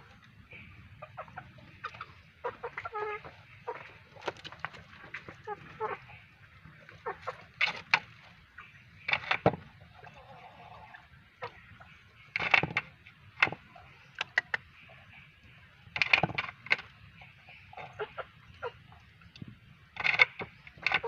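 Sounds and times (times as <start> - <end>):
faint steady background noise: 0.0 - 21.0.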